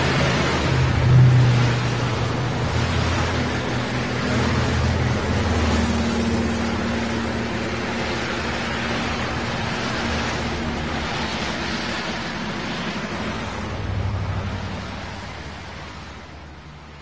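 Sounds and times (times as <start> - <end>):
low engine hum: 0.0 - 17.0
passing traffic: 0.0 - 17.0.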